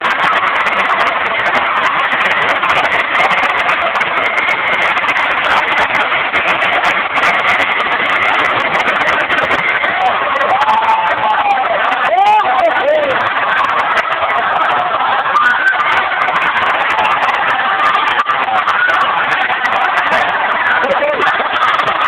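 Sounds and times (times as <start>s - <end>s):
distorted loud car stereo music: 0.0s - 22.0s.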